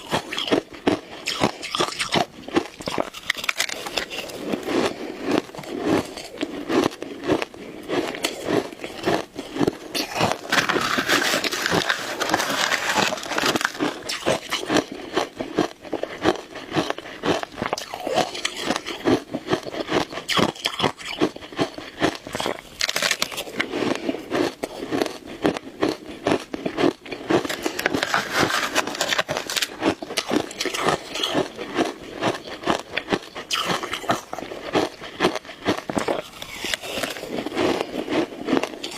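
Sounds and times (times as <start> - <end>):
person chewing shaved ice: 0.0 - 38.9.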